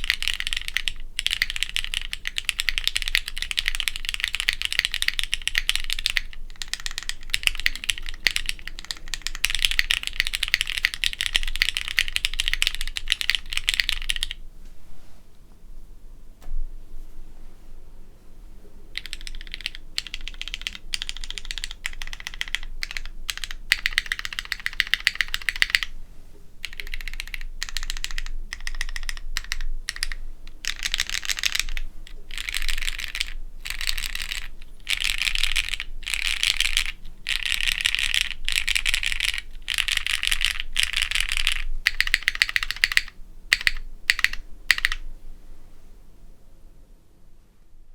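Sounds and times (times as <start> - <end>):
fast mechanical keyboard typing: 0.0 - 14.4, 19.0 - 25.9, 26.6 - 45.0.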